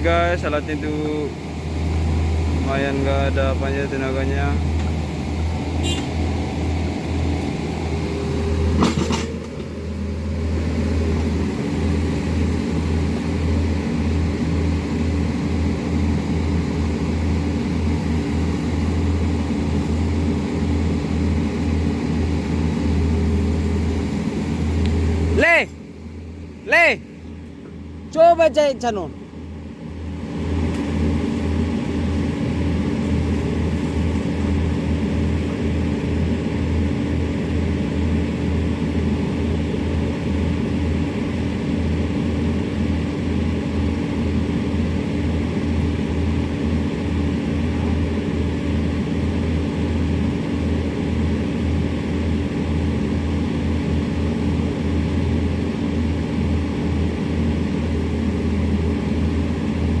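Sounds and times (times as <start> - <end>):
excavator diesel engines under load: 0.0 - 60.0.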